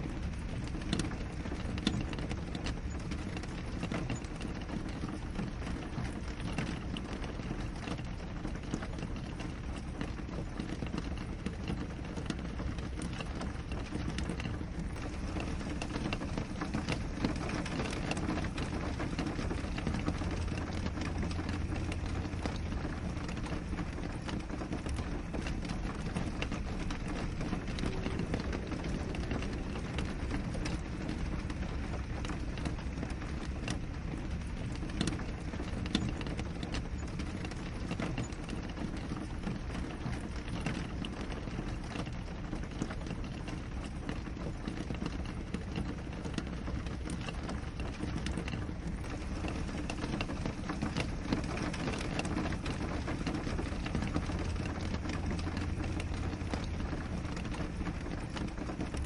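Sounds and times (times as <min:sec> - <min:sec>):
rain hiss: 0:00.0 - 0:59.0
raindrops ticking on glass: 0:00.0 - 0:59.0.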